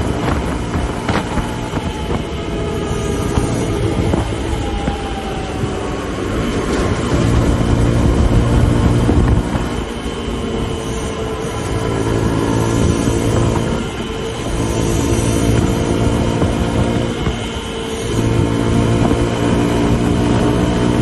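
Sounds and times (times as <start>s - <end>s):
motorcycle engine running hard: 0.0s - 21.0s
wind and road noise: 0.0s - 21.0s.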